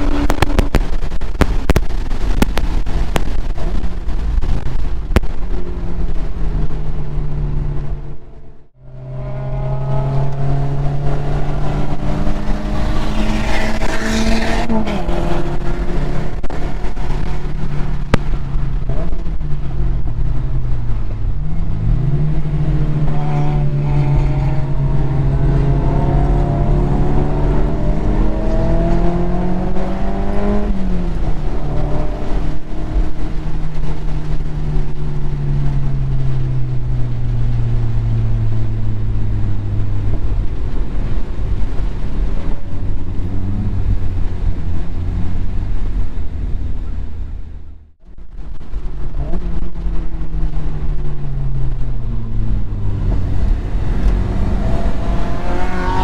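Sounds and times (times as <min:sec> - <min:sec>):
car engine under hard load: 0:00.0 - 0:56.0
heavy wind: 0:00.0 - 0:56.0
road rumble: 0:00.0 - 0:56.0.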